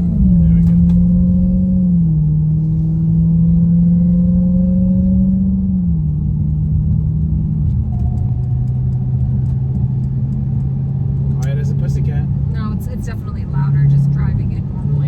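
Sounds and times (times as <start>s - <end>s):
car engine accelerating: 0.0s - 15.0s
gear shifts with pitch drops: 0.0s - 15.0s.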